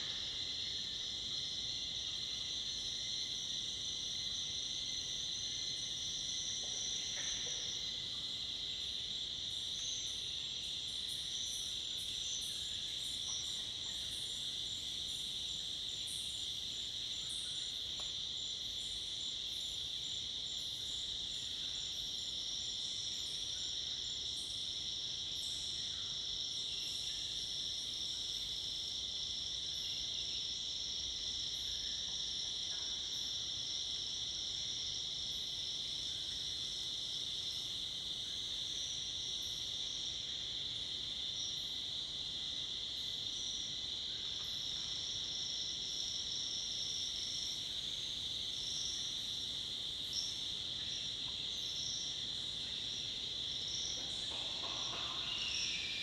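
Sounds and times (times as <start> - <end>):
cicadas and crickets droning: 0.0 - 56.0.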